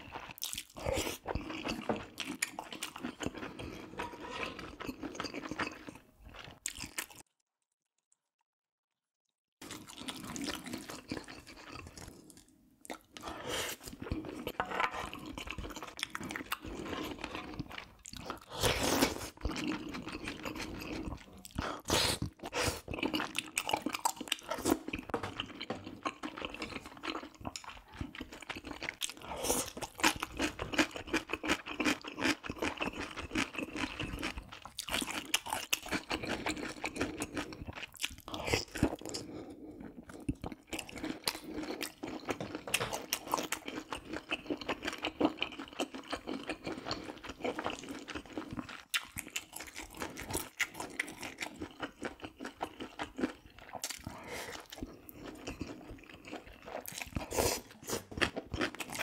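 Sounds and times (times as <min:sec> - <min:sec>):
chewing and biting food: 0:00.0 - 0:07.2, 0:09.6 - 0:59.0.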